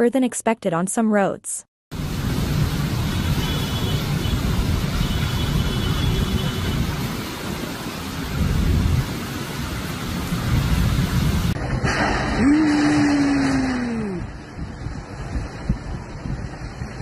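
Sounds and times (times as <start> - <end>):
heavy rain downpour: 1.9 - 17.0.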